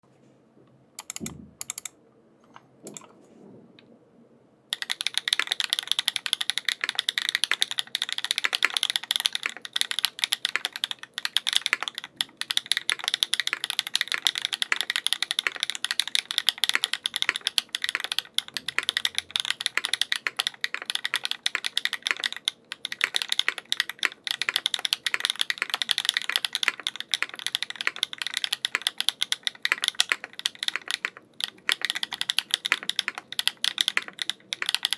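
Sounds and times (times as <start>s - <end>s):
mechanical keyboard typing: 1.0s - 1.9s, 2.9s - 3.1s, 4.7s - 34.9s.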